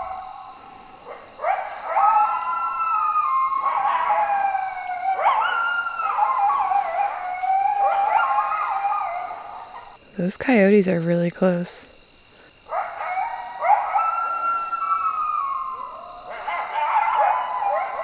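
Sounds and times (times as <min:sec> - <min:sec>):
coyotes howling and yipping: 0:00.0 - 0:18.0.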